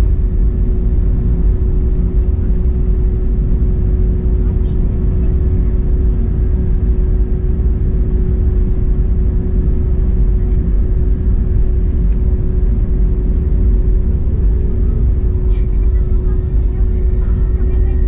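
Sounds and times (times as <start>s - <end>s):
aircraft cabin rumble: 0.0s - 18.0s
constant hum: 0.0s - 18.0s.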